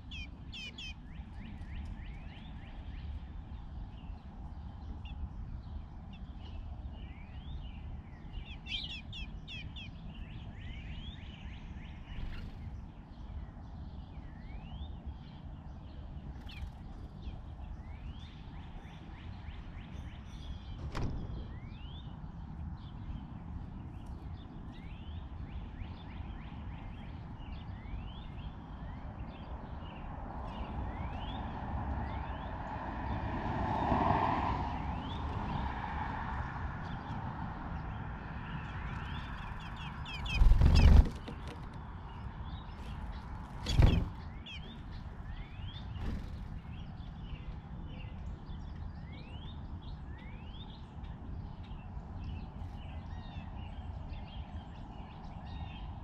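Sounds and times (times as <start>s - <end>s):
small birds chirping: 0.0s - 32.6s, 36.7s - 56.0s.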